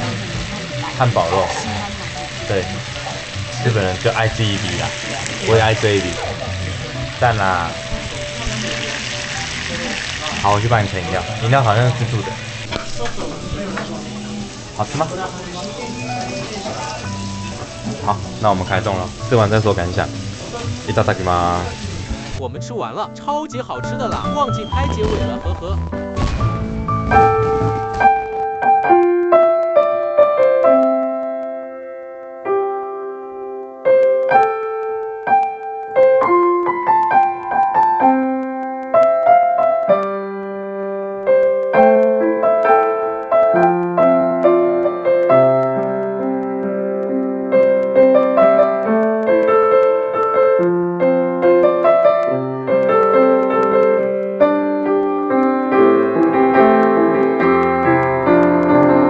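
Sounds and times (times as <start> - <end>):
gentle solo piano piece: 0.0 - 22.4, 26.4 - 59.0.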